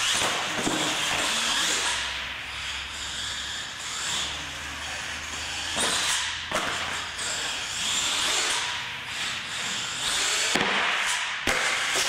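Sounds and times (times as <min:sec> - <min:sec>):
toy truck motor whirring: 0:00.0 - 0:12.0.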